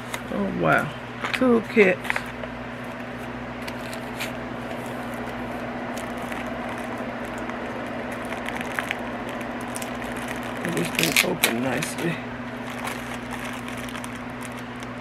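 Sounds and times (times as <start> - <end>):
steady background hum: 0.0 - 15.0
plastic packaging rustling: 2.0 - 15.0.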